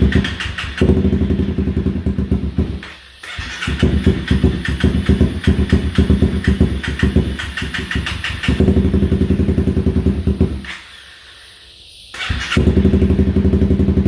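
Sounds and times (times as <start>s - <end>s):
motorcycle engine cranking on starter: 0.0s - 1.8s, 2.5s - 10.9s, 12.1s - 14.0s.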